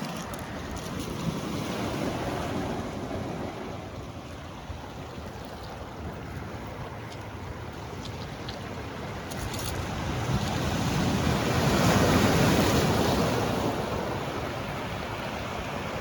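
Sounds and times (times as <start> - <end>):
rushing water: 0.0 - 16.0
wind: 0.0 - 16.0.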